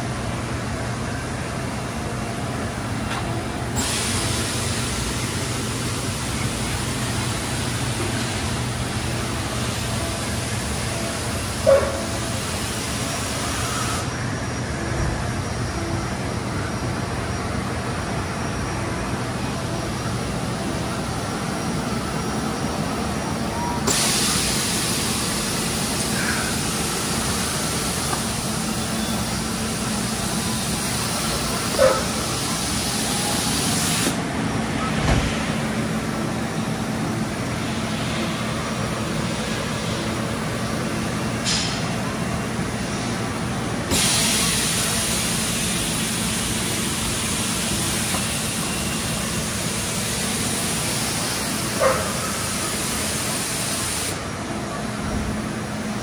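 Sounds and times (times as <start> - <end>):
machine shop hum: 0.0 - 56.0.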